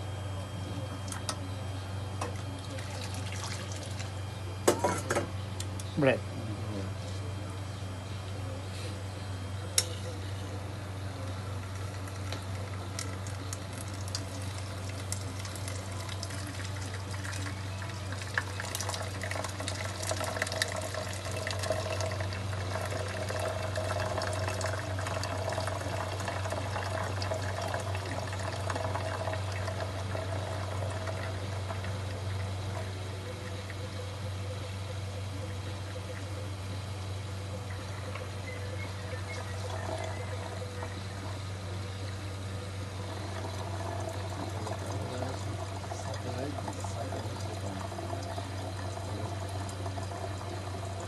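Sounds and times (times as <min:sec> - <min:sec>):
water gurgling in coffee maker: 0:00.0 - 0:05.3, 0:11.4 - 0:51.0
low machine hum: 0:00.0 - 0:51.0.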